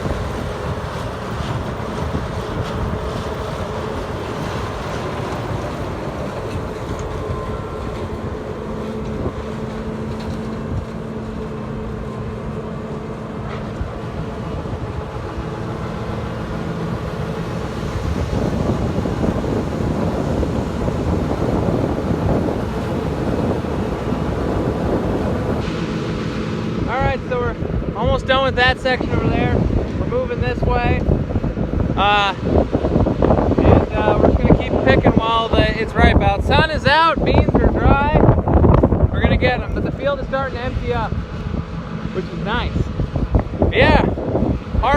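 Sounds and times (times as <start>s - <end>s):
farm machinery engine droning: 0.0s - 44.9s
wind buffeting microphone: 0.0s - 44.9s.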